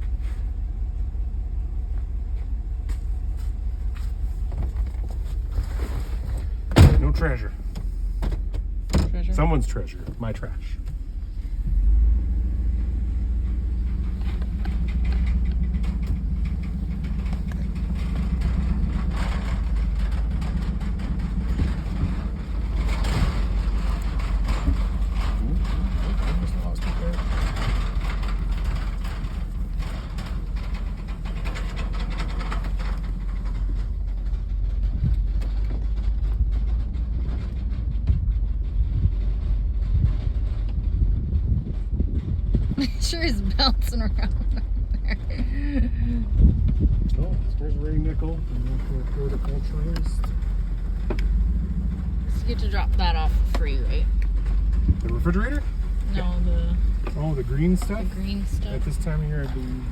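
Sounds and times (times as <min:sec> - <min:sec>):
vehicle engine and road rumble: 0:00.0 - 0:59.9
vehicle rattling: 0:00.0 - 0:59.9.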